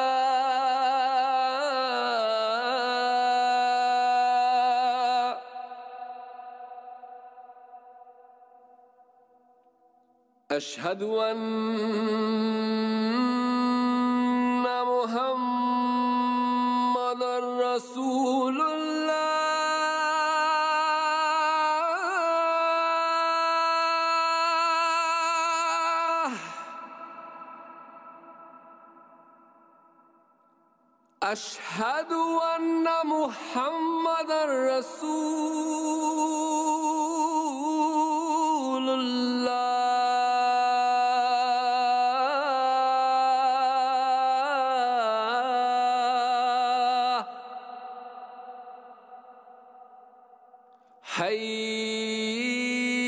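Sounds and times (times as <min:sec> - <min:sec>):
man singing call to prayer: 0:00.0 - 0:08.4, 0:10.5 - 0:29.4, 0:31.2 - 0:50.2, 0:51.0 - 0:53.0.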